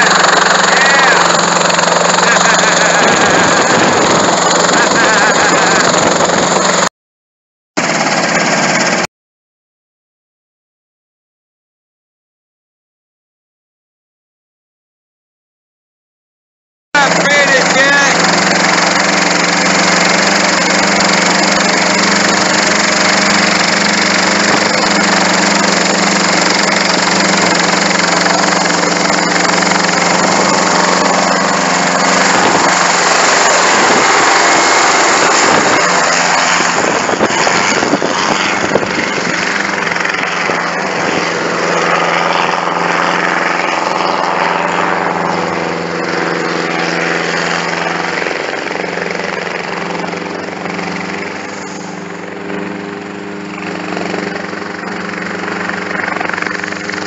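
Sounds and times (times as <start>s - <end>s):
helicopter engine and rotor drone: 0.0s - 6.9s, 7.8s - 9.1s, 17.0s - 57.0s.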